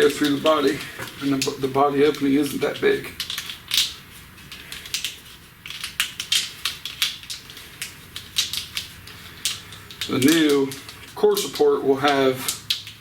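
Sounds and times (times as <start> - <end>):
wiring harness clicking and rustling: 0.0 - 13.0.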